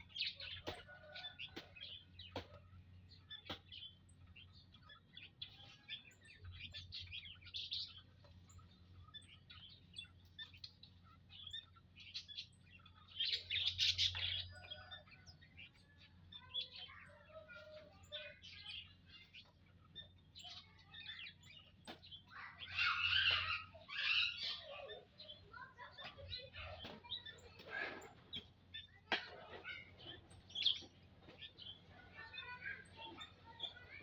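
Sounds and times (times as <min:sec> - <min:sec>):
flock of birds chirping: 0:00.0 - 0:34.0.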